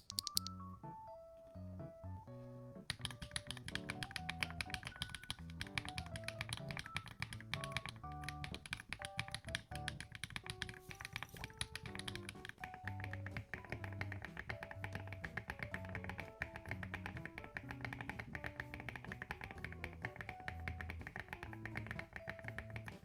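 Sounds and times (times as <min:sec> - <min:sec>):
mechanical keyboard typing: 0:00.0 - 0:00.6, 0:02.9 - 0:23.0
background music: 0:00.0 - 0:23.0.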